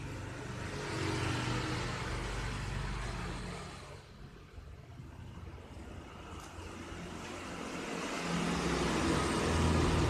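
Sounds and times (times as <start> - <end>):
vehicle engine passing by: 0.0 - 4.3, 5.3 - 10.0.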